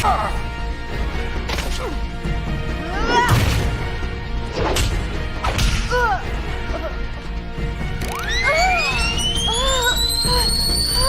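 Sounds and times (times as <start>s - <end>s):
dramatic music score: 0.0s - 11.0s.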